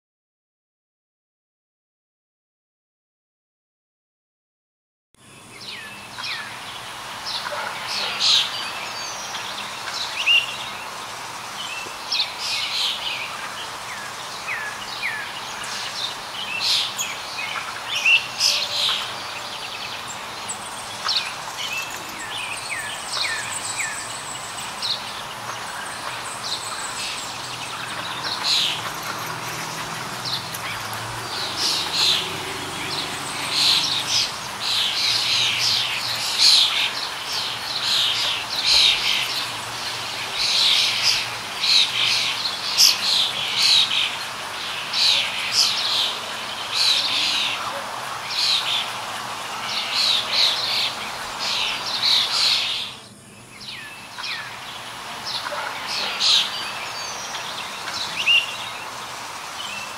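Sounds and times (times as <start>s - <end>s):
steady background hiss: 5.2s - 59.9s.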